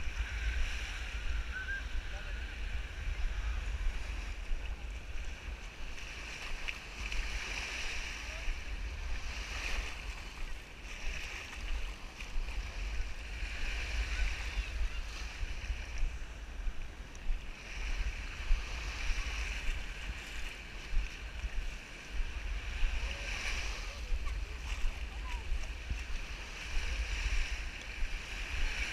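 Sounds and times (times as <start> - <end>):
small waves washing on sand: 0.0 - 28.9
wind rumble on microphone: 0.0 - 28.9.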